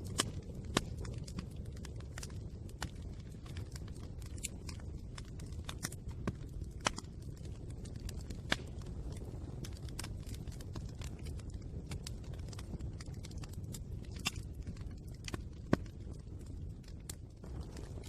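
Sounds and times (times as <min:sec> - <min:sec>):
fire crackling and popping: 0:00.0 - 0:18.0
flame rushing: 0:00.0 - 0:18.0.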